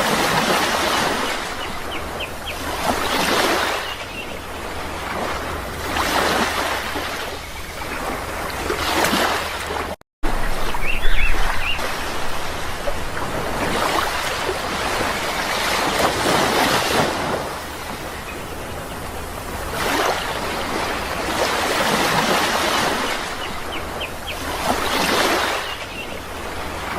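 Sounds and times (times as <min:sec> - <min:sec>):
sea waves washing in: 0:00.0 - 0:26.9.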